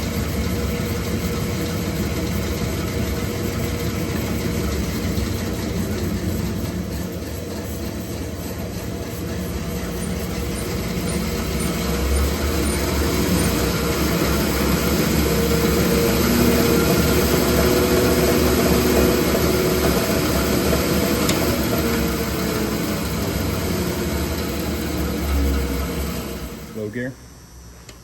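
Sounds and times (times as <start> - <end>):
band saw running: 0.0 - 27.1.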